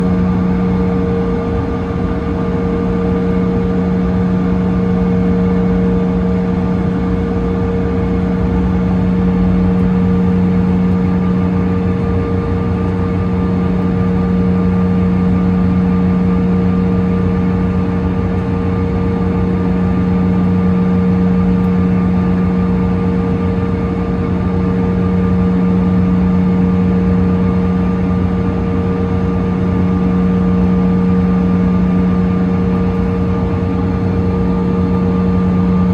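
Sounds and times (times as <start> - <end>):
jet cabin engine hum: 0.0 - 35.9.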